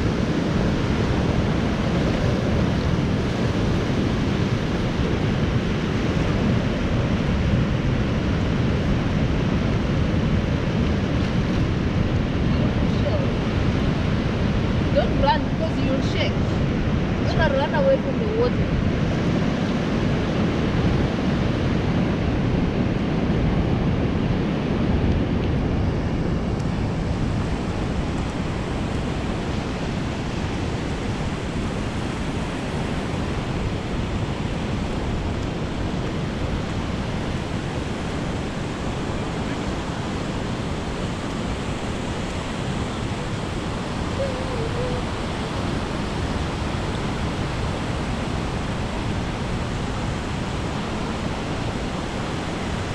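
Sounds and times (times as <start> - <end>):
ocean surf breaking: 0.0 - 52.9
wind on microphone: 0.0 - 52.9.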